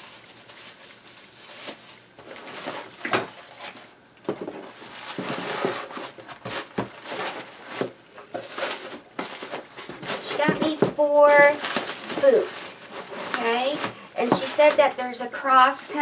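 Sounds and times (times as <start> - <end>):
bubble wrap and cardboard rustling: 0.0 - 16.0.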